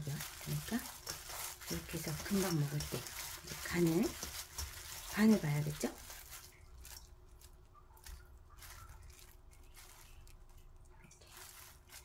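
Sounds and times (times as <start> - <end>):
gloved hand squishing food: 0.0 - 12.0.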